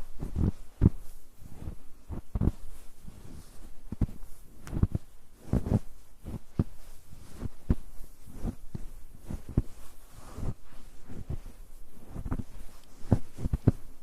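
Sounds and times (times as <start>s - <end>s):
footsteps on snow: 0.0s - 14.0s.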